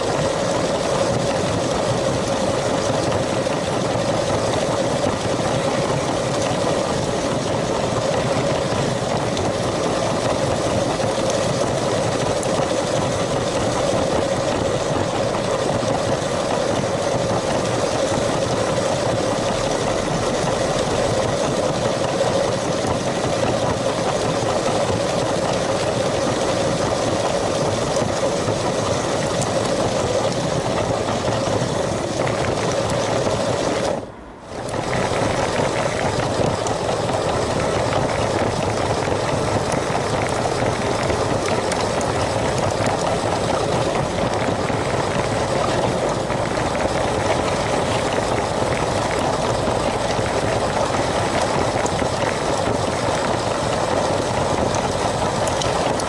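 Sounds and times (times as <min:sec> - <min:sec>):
wheels rolling on plastic track: 0:00.0 - 0:56.0.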